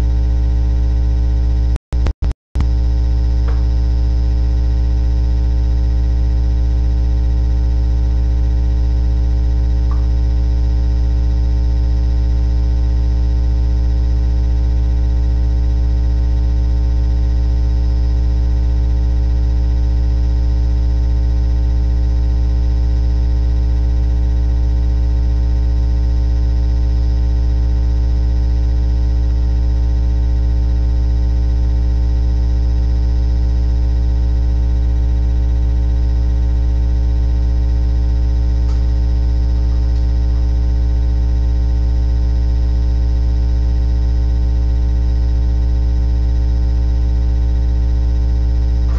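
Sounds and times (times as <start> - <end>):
low buzzy electrical hum: 0.0 - 48.9.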